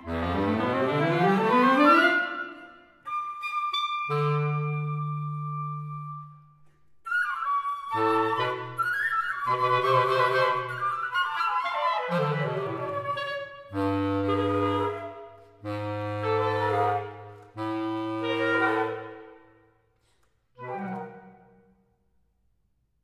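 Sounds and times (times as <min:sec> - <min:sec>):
woodwind quartet playing: 0:00.0 - 0:06.4, 0:07.1 - 0:19.5, 0:20.6 - 0:21.7.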